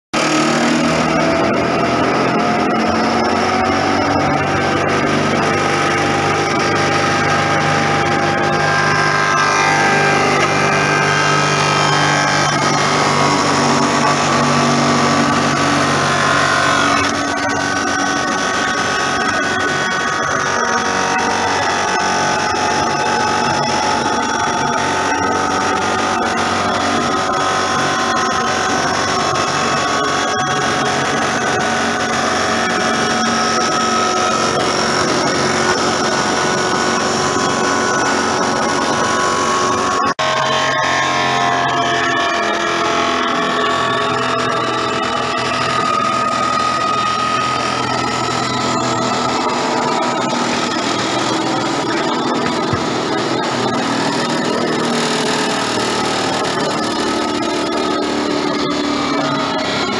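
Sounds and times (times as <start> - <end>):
sawdust machine cutting log: 0.2 - 59.9.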